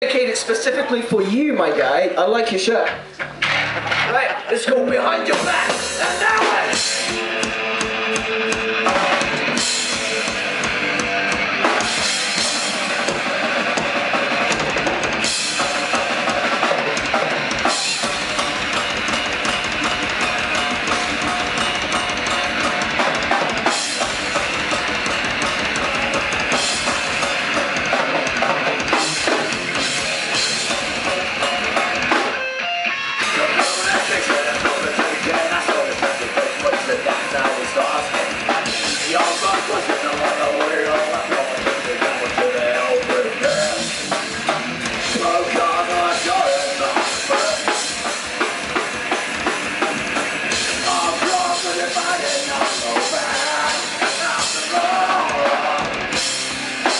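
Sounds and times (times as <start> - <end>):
drum kit: 0.0 - 56.9
rock band playing: 0.0 - 56.9.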